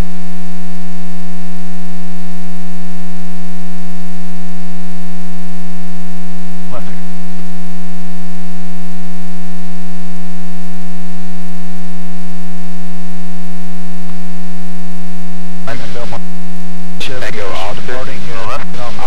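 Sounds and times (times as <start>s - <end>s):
loud electrical hum: 0.0s - 19.0s.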